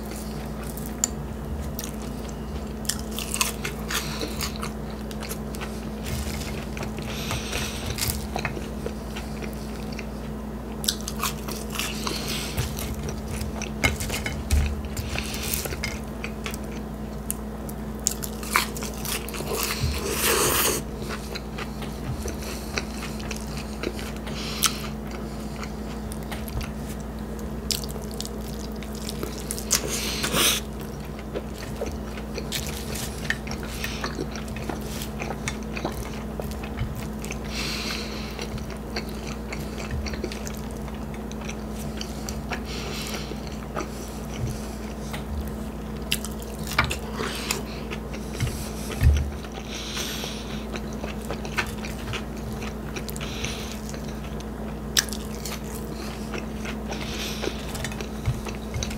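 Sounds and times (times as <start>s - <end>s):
crunching bites and chewing: 0.0s - 58.9s.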